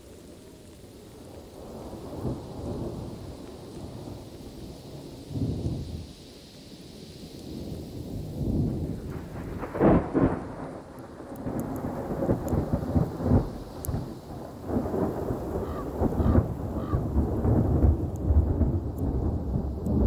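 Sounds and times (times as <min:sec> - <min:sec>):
thunder rumbling and crackling: 0:00.0 - 0:20.0.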